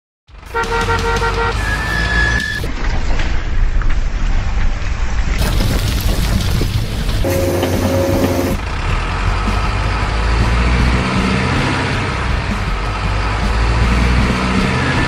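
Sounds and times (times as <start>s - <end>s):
truck engine rumbling: 0.3s - 15.0s.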